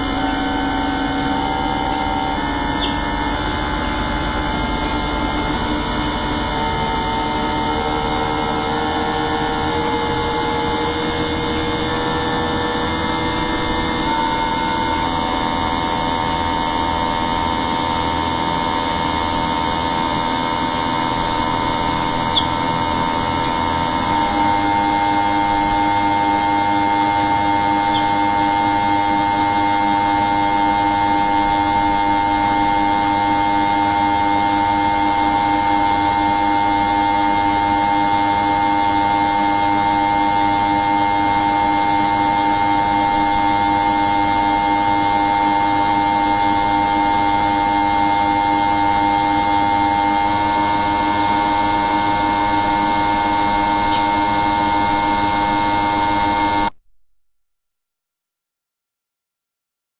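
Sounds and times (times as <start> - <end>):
loud machine hum: 0.0 - 56.8.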